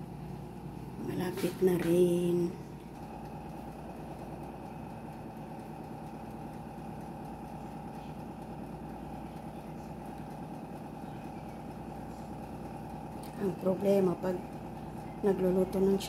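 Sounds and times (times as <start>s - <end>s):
rotisserie motor hum: 0.0s - 16.0s.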